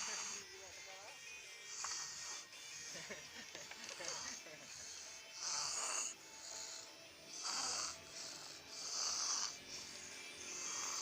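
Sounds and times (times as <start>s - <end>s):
person snoring: 0.0s - 0.6s, 1.6s - 3.0s, 3.8s - 11.0s.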